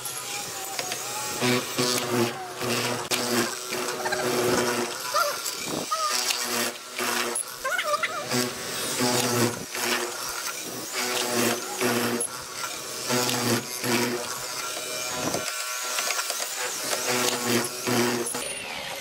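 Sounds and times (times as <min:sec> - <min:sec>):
mortiser cutting wood: 0:00.0 - 0:19.0.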